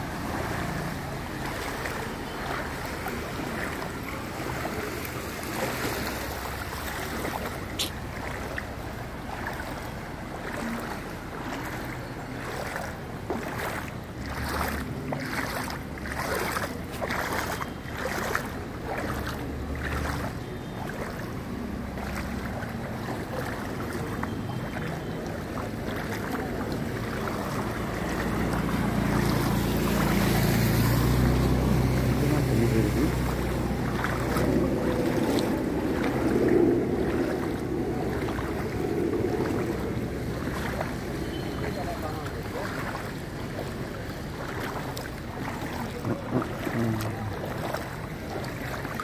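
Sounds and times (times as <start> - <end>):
splashing through floodwater: 0.0 - 49.0.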